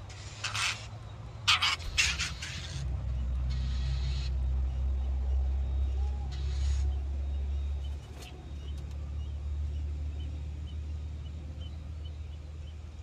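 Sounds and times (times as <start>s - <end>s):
nestlings cheeping: 0.0s - 10.8s.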